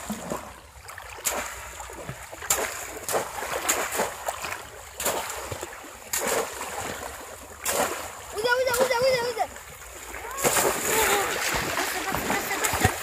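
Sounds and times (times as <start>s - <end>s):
swirling stirred water: 0.0s - 13.0s
traps splashing into water: 0.0s - 13.0s.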